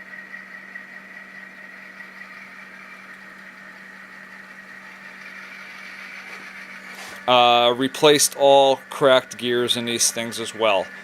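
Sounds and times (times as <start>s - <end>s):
diesel engine idling through small speaker: 0.0s - 11.0s.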